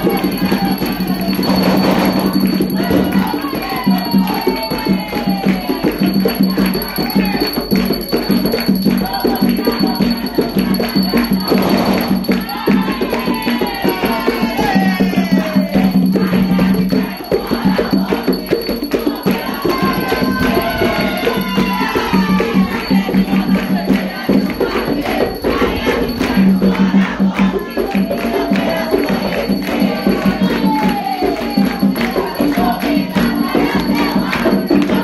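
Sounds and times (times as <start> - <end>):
group singing a chant: 0.0 - 35.0
hand drums beating fast rhythm: 0.0 - 35.0
hand-clapping: 0.0 - 35.0.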